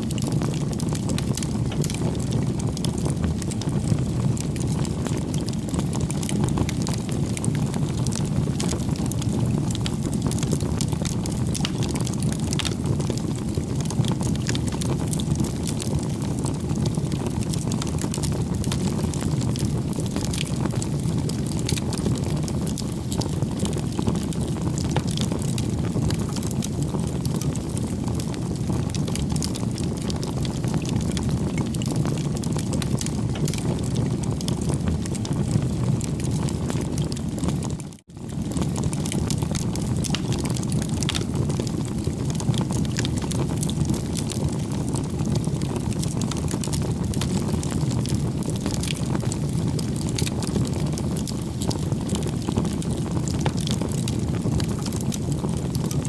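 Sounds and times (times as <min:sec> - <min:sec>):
crackles and pops of burning wood: 0:00.0 - 0:56.0
low rumble of flames: 0:00.0 - 0:56.0.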